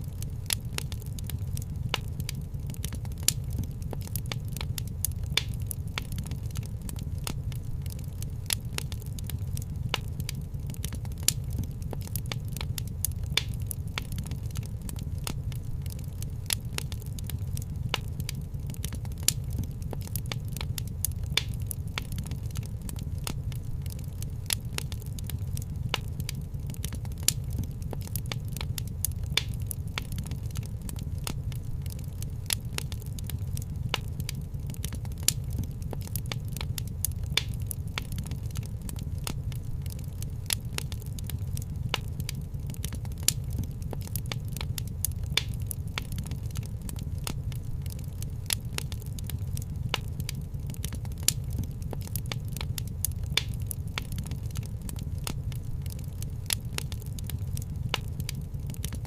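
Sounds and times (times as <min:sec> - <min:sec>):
fire crackling and popping: 0:00.0 - 0:59.0
fire rumbling: 0:00.0 - 0:59.0.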